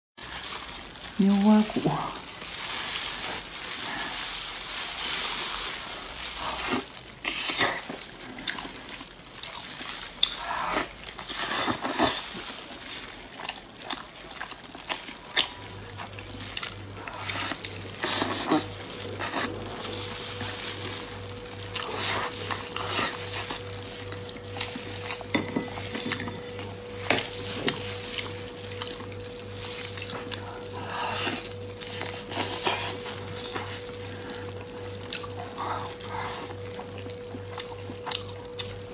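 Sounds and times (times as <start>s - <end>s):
wet chewing: 2.2s - 38.9s.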